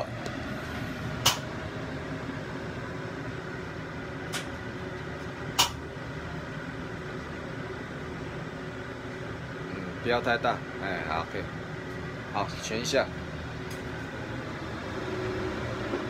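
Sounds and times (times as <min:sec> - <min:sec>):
kitchen fan humming: 0:00.0 - 0:16.0.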